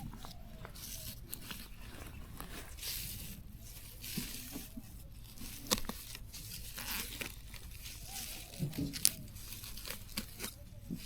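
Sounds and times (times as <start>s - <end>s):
rustling and tearing: 0.0s - 11.0s.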